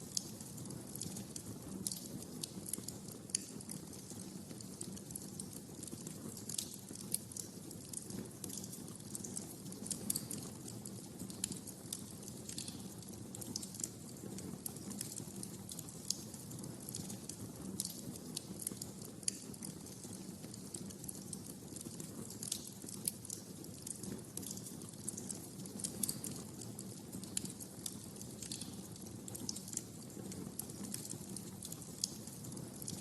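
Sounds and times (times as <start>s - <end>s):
wood fire crackling: 0.0s - 33.0s
low rumble of flames: 0.1s - 33.0s.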